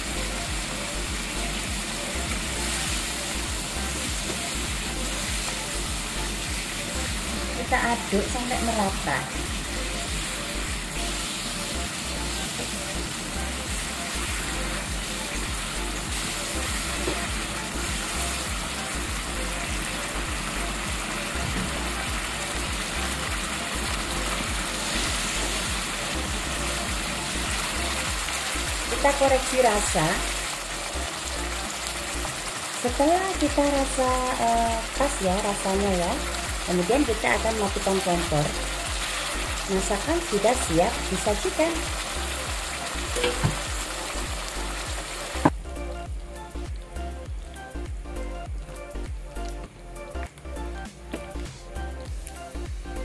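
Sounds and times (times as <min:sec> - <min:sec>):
sauce simmering in a frying pan: 0:00.0 - 0:45.5
background music: 0:00.0 - 0:53.0.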